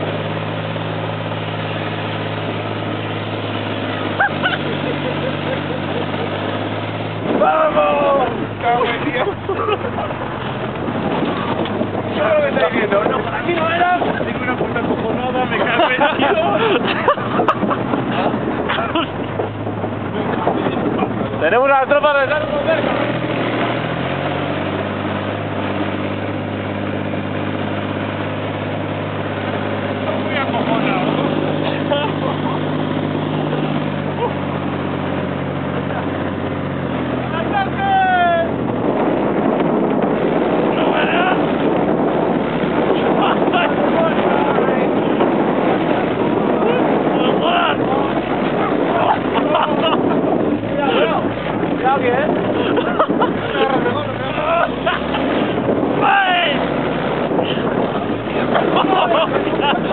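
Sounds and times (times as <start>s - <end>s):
rush of moving vehicle: 0.0s - 59.9s
tank engine running: 0.0s - 59.9s.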